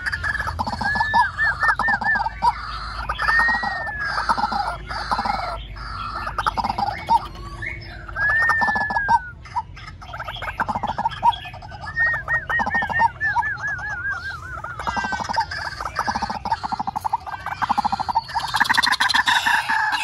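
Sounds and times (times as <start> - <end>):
waterhen clucking and croaking: 0.0 - 20.0.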